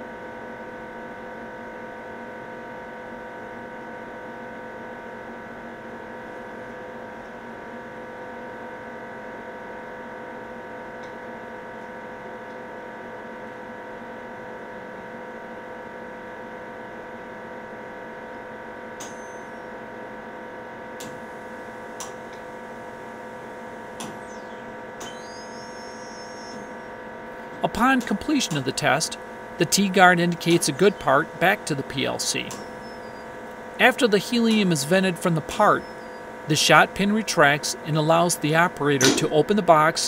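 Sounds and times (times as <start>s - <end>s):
multi-pitched machine hum: 0.0s - 40.0s.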